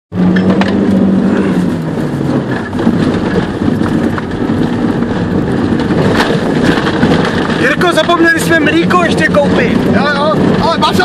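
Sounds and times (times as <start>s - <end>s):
car engine running hard: 0.1s - 11.0s.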